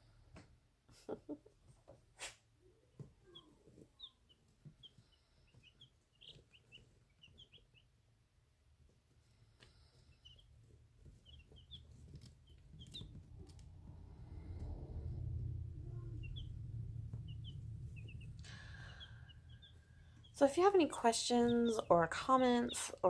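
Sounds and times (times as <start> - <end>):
chicks peeping: 3.0 - 23.0.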